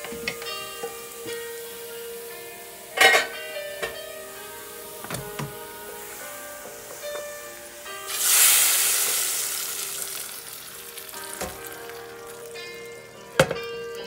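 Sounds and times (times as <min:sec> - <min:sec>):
hot oil sizzling in lentils: 0:00.0 - 0:13.4.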